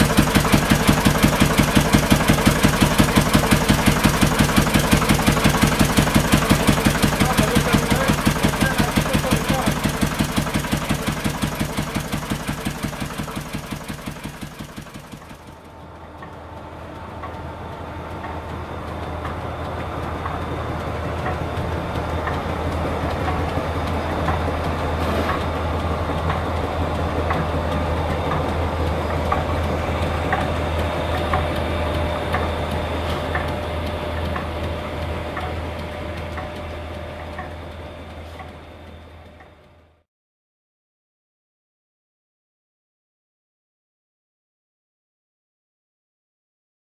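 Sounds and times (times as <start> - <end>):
line shaft and belts humming: 0.0 - 40.0
stationary engine running: 0.0 - 40.0.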